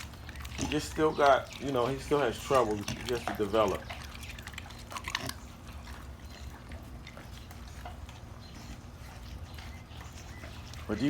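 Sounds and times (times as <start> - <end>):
dogs chewing wet smacking: 0.0 - 11.0.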